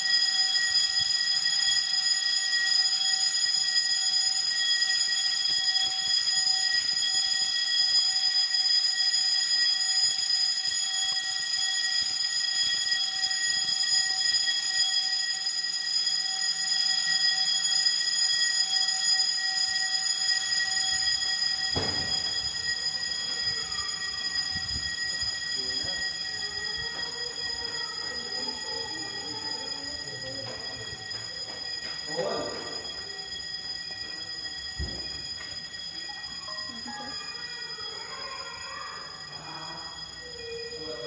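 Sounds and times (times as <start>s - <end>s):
fire alarm tone: 0.0s - 41.0s.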